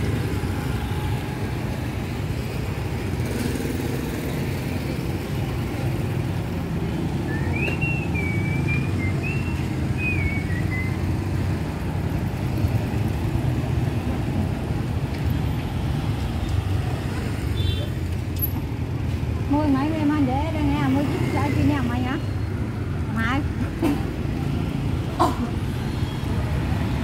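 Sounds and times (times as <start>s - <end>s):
street noise rumble: 0.0s - 27.0s.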